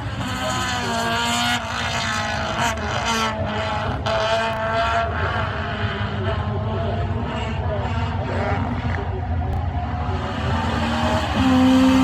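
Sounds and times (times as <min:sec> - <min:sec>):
racing car engine at high revs: 0:00.0 - 0:12.0.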